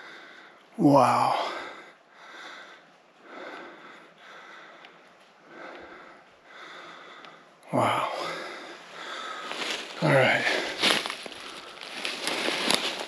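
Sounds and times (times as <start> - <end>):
man breathing heavily: 0.0 - 13.0.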